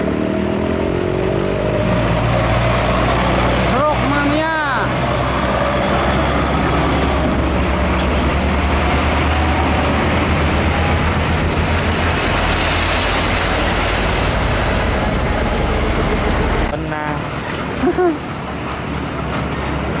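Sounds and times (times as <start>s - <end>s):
diesel trucks passing: 0.0s - 20.0s
tyre and road noise: 0.0s - 20.0s.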